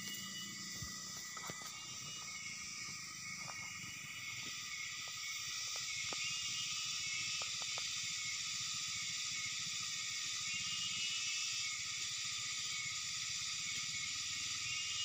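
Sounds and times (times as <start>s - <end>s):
high-pitched outdoor hiss: 0.0s - 15.0s.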